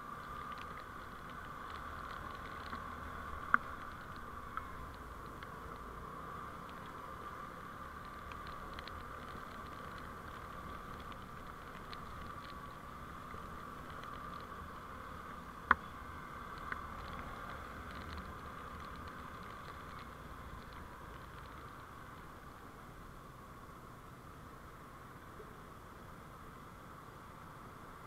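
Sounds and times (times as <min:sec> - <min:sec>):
vehicle driving noise: 0:00.0 - 0:28.0.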